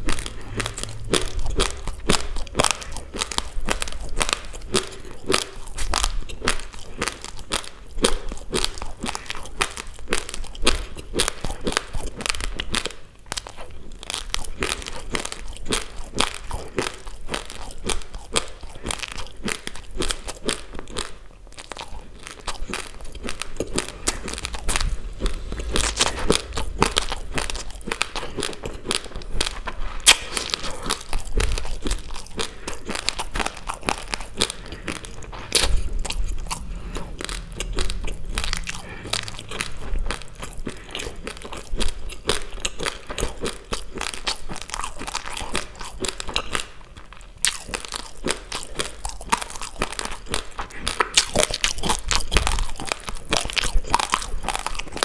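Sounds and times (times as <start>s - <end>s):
chewing crunchy raw rice: 0.0s - 55.0s.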